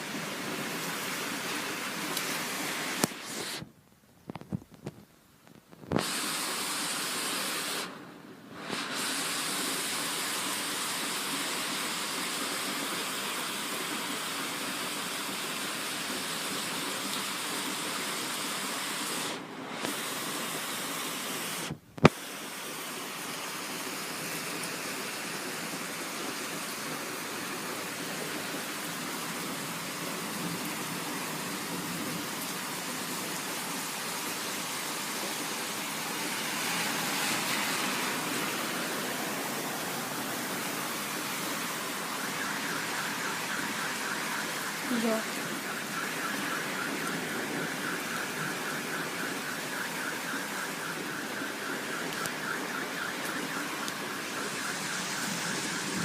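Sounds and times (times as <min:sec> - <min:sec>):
heavy rain pouring: 0:00.0 - 0:03.7, 0:05.8 - 0:56.0.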